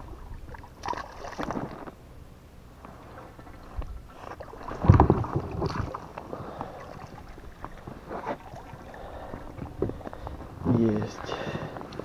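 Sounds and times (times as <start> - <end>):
water splashing beside boat: 0.0 - 2.0, 2.8 - 12.0.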